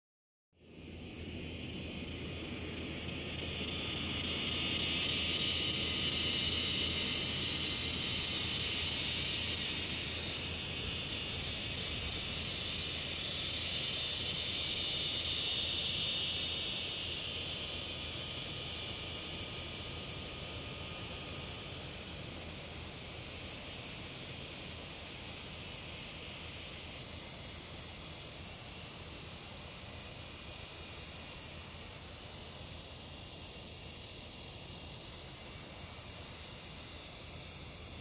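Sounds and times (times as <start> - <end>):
insect pulsing trill: 0.6 - 38.0
insects buzzing shrilly: 0.6 - 38.0.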